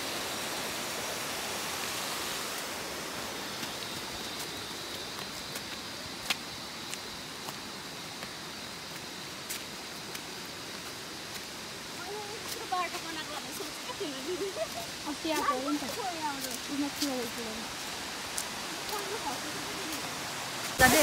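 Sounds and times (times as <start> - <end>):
stream of rushing water: 0.0 - 21.0.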